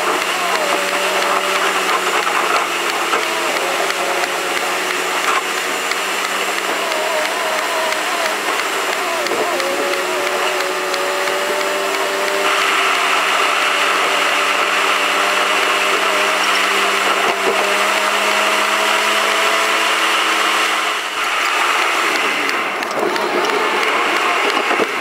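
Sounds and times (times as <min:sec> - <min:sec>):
car interior whirring drone: 0:00.0 - 0:25.0
held drifting tones: 0:00.0 - 0:25.0.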